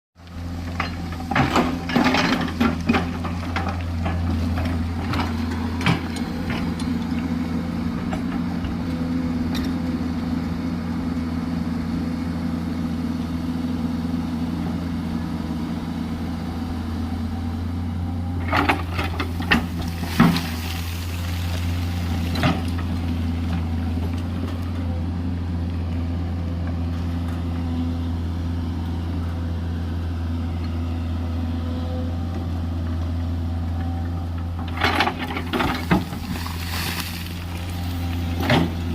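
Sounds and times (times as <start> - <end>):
excavator diesel engine running: 0.2 - 38.9.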